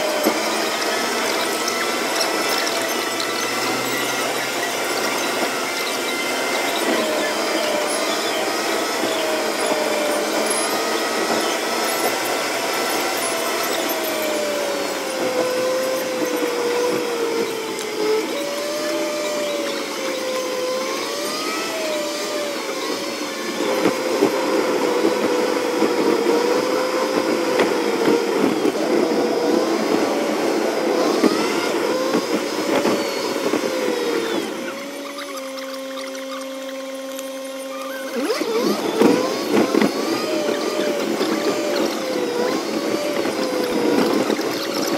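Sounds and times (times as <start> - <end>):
car road and engine noise: 0.0 - 44.9
wavering whine: 0.0 - 44.9.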